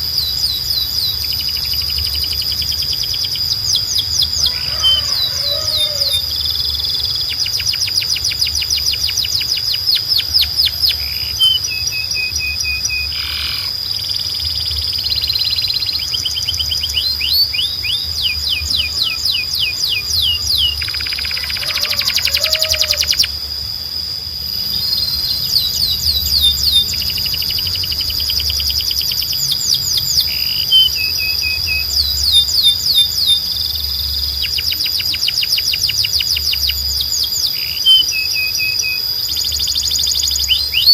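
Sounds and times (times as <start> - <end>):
canary singing: 0.0 - 23.5, 24.4 - 40.9.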